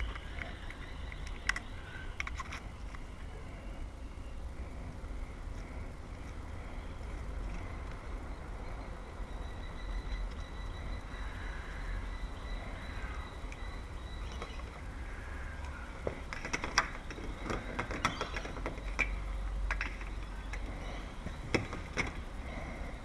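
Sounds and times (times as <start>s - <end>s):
steady low rumble: 0.0s - 17.7s, 18.8s - 23.0s.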